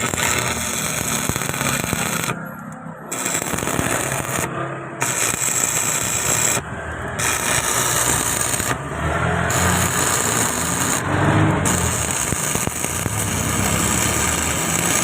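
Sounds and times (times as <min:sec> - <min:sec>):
arc welding crackling hiss: 0:00.0 - 0:02.4, 0:03.1 - 0:06.6, 0:07.2 - 0:08.8, 0:09.5 - 0:11.0, 0:11.6 - 0:15.0.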